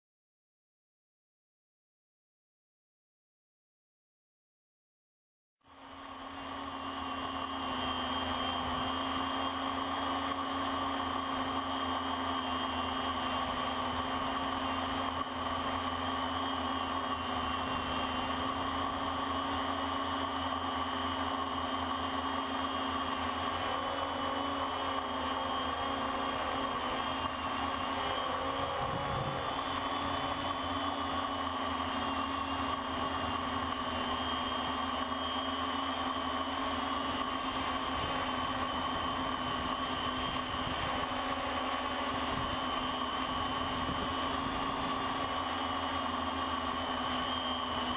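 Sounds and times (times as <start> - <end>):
drone motors whining: 5.7 - 47.9.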